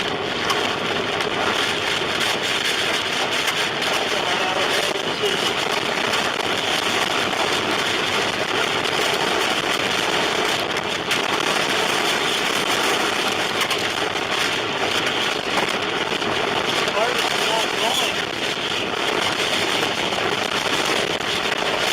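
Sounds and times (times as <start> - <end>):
wind buffeting car: 0.0 - 21.9.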